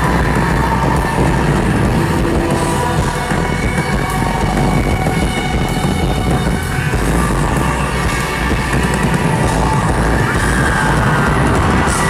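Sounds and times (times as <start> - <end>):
electric guitar strummed hard: 0.0 - 12.0
rock band playing live: 0.0 - 12.0.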